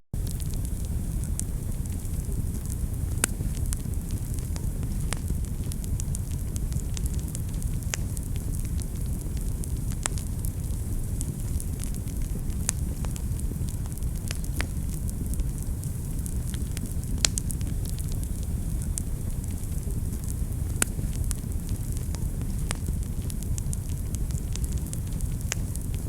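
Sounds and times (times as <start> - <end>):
fire crackling and popping: 0.2 - 26.0
fire flames rumbling: 0.2 - 26.0.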